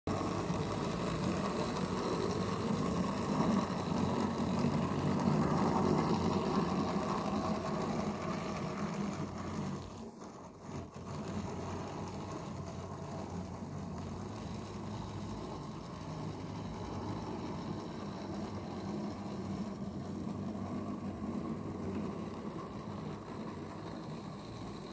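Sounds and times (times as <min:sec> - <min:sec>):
model train wheels rumbling: 0:00.1 - 0:24.9
small electric motor humming: 0:00.1 - 0:24.9.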